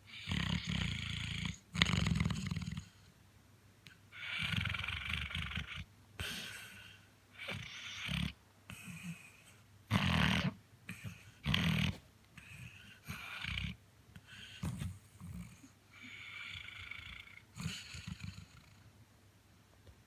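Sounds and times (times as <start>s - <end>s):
dog snoring: 0.0s - 3.1s, 4.1s - 18.9s.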